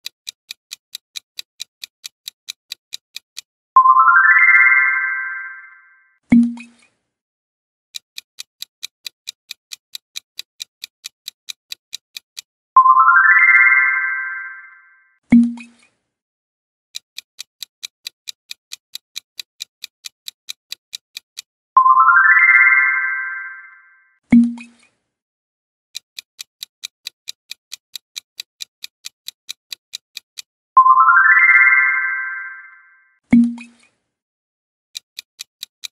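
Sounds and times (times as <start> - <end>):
clock-like timer ticks: 0.0 - 6.9, 7.9 - 16.0, 16.9 - 25.0, 25.9 - 34.0, 35.0 - 35.9.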